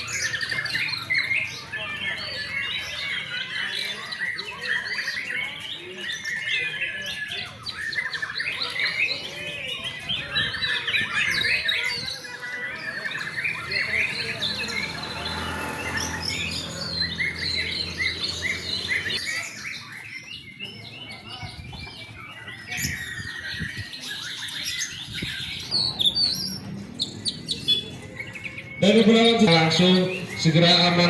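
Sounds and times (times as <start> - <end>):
songbirds chirping and trilling: 0.0 - 31.0.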